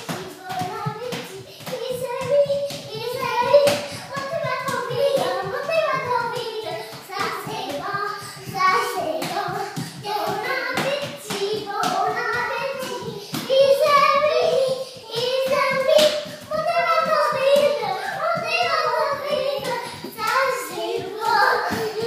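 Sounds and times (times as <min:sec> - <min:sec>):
children singing: 0:00.0 - 0:22.0
running footsteps on laminate floor: 0:00.0 - 0:22.0.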